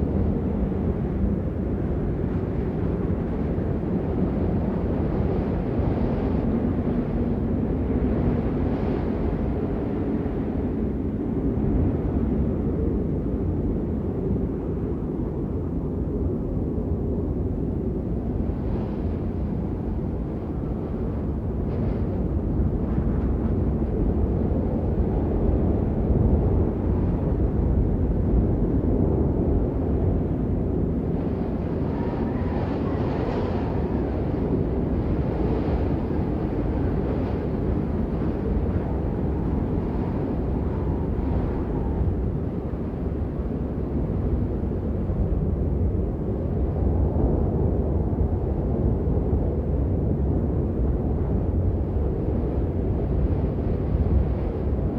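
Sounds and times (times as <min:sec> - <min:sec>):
blizzard wind blowing: 0:00.0 - 0:54.9.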